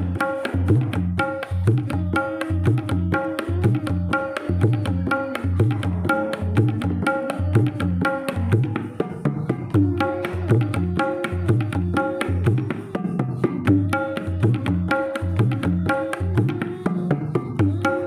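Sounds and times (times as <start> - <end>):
music with fast percussion beat: 0.0 - 18.0.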